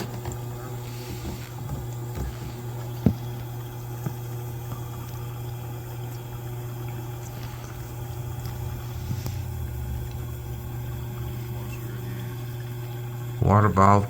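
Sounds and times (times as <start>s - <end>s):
water moving in dishwasher: 0.0s - 13.4s
dishwasher pump humming: 0.0s - 14.0s.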